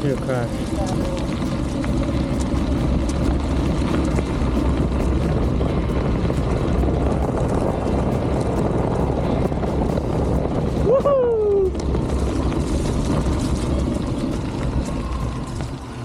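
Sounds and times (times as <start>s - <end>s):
bicycle tyres rolling on trail: 0.0s - 16.0s
wind buffeting microphone: 0.0s - 16.0s.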